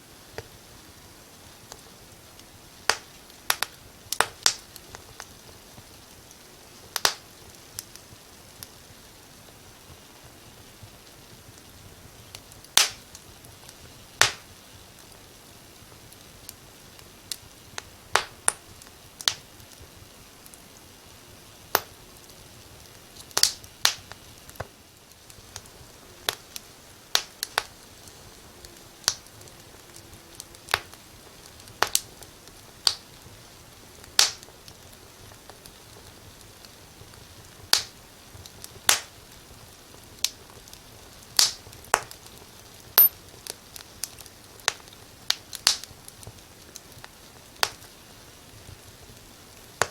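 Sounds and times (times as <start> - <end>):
faint steady hiss: 0.0 - 49.9
fireplace fire crackling: 0.0 - 49.9.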